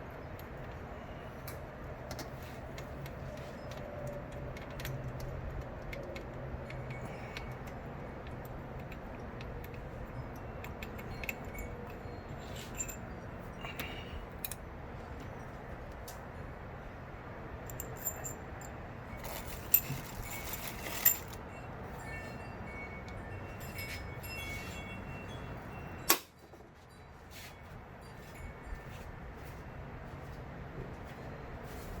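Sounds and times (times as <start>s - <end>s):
light metallic clicks and clinks: 1.4s - 16.3s, 17.6s - 29.1s.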